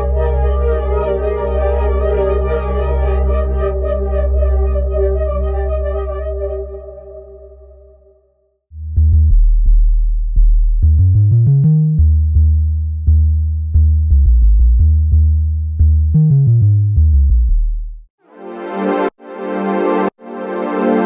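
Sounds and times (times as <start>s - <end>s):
synth bass notes: 0.0s - 8.2s, 8.8s - 18.1s.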